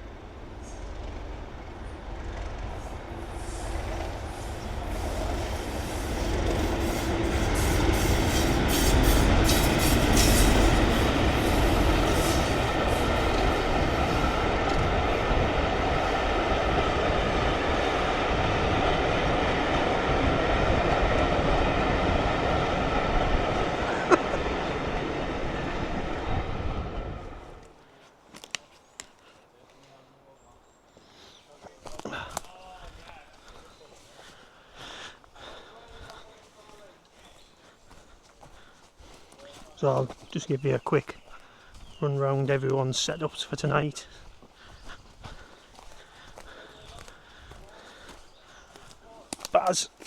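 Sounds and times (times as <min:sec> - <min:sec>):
steam train running: 0:00.0 - 0:27.8, 0:32.6 - 0:50.0.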